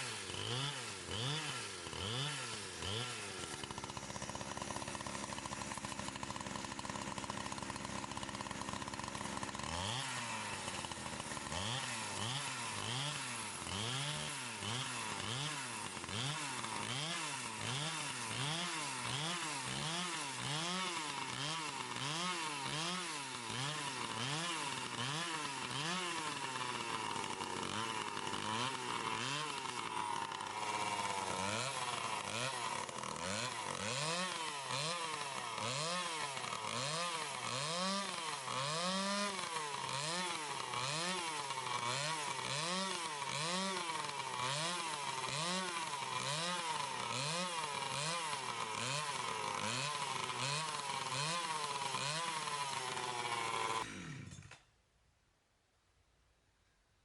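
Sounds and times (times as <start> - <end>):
chainsaw cutting wood: 0.0 - 54.8.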